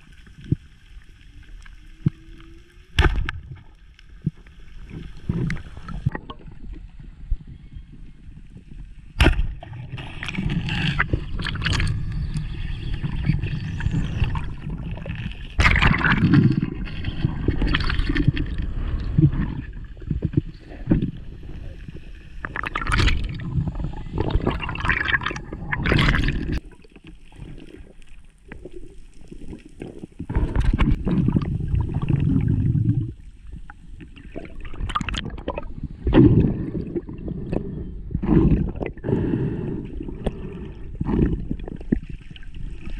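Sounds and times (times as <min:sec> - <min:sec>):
underwater water gurgling and rushing: 0:00.0 - 0:42.9.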